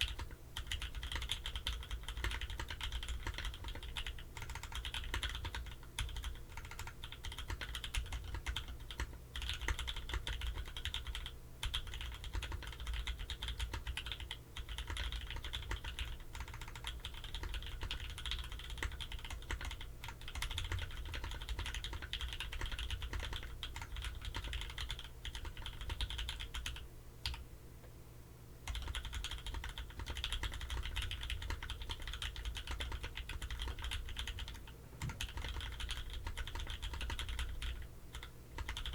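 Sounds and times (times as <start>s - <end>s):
mechanical keyboard typing: 0.0s - 27.4s, 28.6s - 38.9s.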